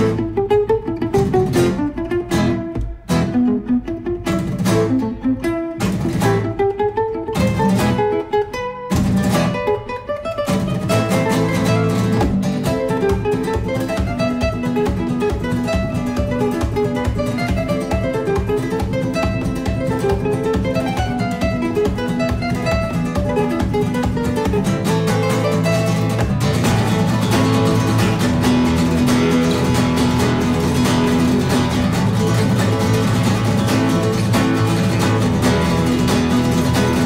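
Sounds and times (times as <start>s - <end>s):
flamenco acoustic guitar strumming: 0.0s - 37.0s.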